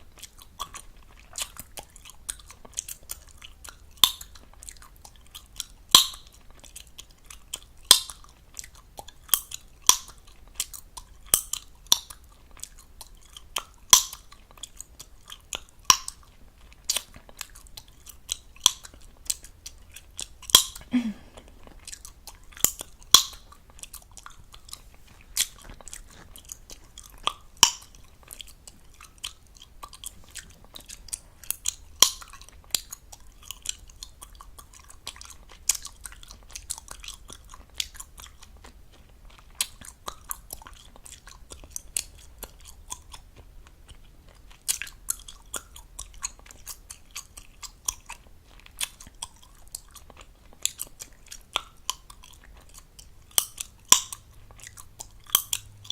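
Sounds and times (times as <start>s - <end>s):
gum chewing smacking: 0.0s - 55.9s
gum pops: 0.2s - 55.9s.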